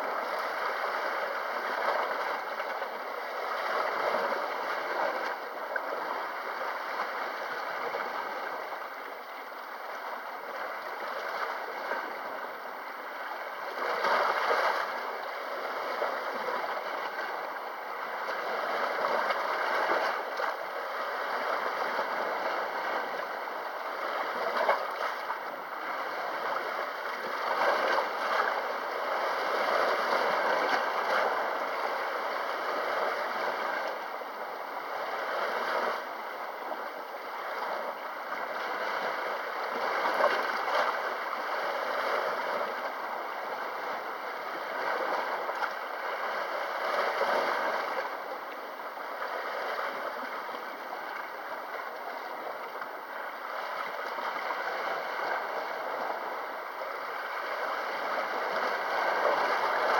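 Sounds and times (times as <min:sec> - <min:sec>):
sea waves lapping at shore: 0:00.0 - 0:59.9.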